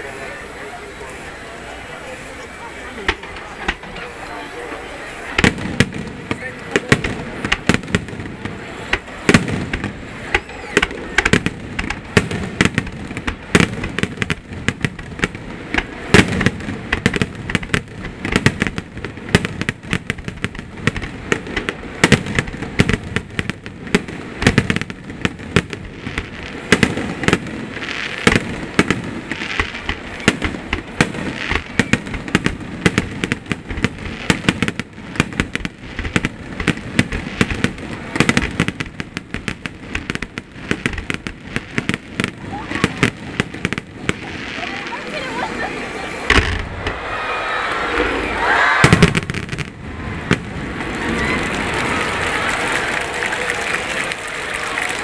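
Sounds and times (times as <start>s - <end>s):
continuous noisy wash: 0.0s - 55.0s
fireworks bursting: 0.0s - 55.0s.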